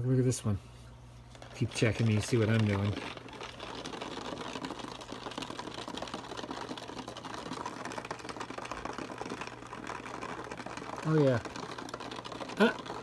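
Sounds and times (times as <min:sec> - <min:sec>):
low equipment hum: 0:00.0 - 0:13.0
fast crackle of small clicks: 0:01.3 - 0:13.0.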